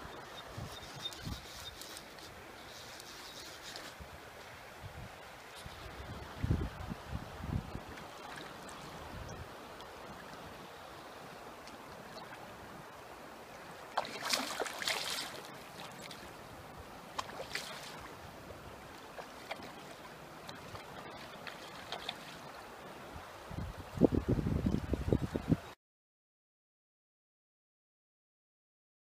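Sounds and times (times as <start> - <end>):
river water rushing: 0.0 - 25.1.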